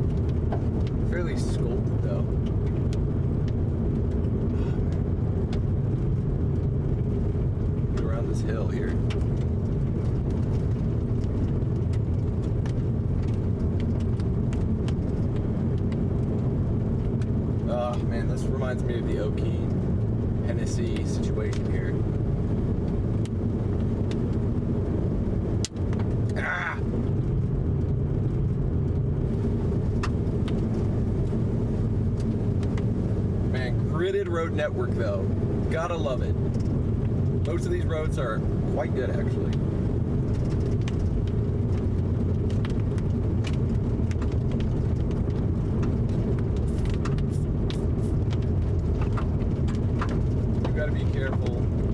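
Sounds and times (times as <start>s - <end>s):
car rumble inside cabin: 0.0s - 51.9s
sharp clicks and ticks: 0.0s - 51.9s.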